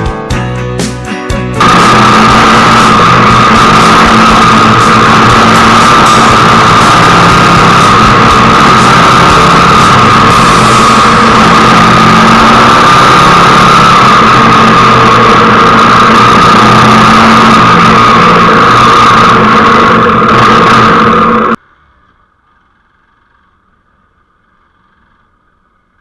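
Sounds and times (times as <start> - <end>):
motorcycle engine running: 1.6 - 26.0.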